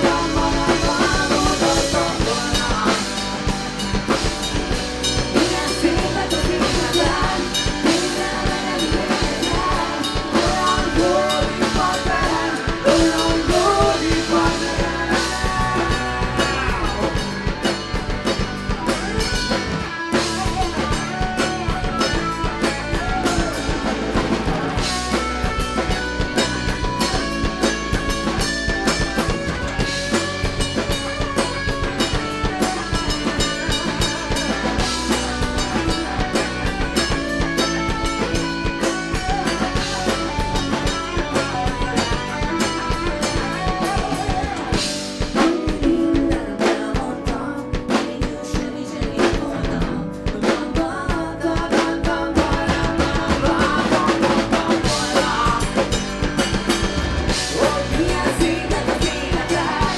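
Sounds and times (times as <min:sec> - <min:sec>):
drum kit beat: 0:00.0 - 0:59.9
live rock band playing: 0:00.0 - 0:59.9.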